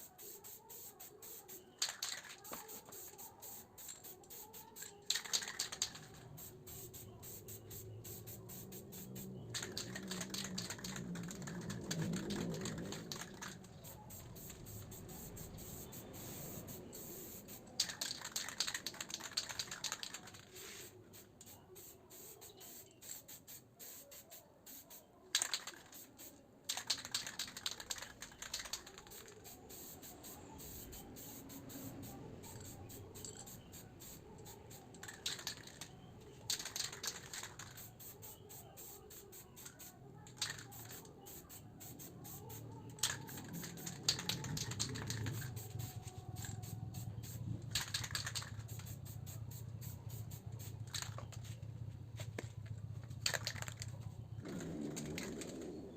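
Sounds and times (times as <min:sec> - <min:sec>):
spray paint can hissing: 0:00.0 - 0:51.5.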